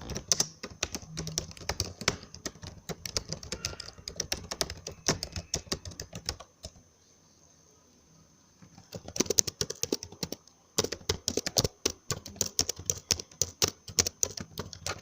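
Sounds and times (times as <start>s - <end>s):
typing on computer keyboard: 0.0s - 6.8s, 8.7s - 15.0s.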